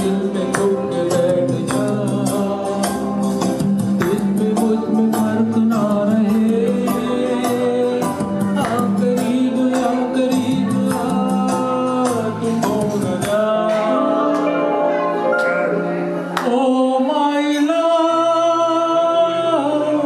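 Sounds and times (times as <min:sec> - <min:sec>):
man singing into microphone: 0:00.0 - 0:14.8, 0:16.4 - 0:20.0
backing music with steady beat: 0:00.0 - 0:20.0.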